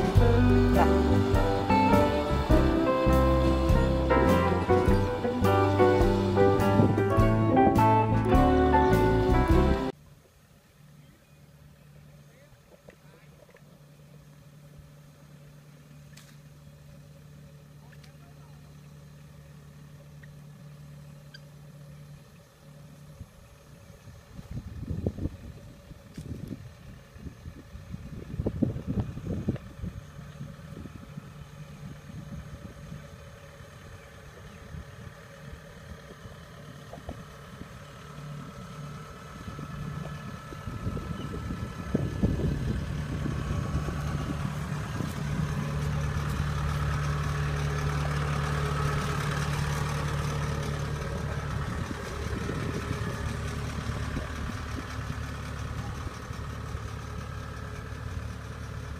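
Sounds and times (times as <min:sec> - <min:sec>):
combine harvester diesel engine: 0:00.0 - 0:10.0, 0:10.6 - 0:58.9.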